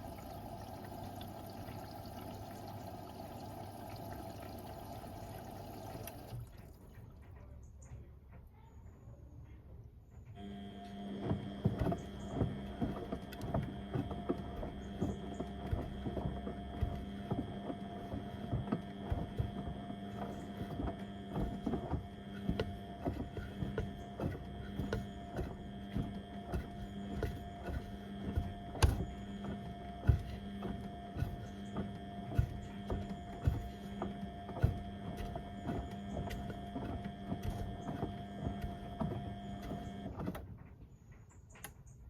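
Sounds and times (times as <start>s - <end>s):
washing machine motor hum: 0.0s - 7.6s, 10.3s - 40.8s.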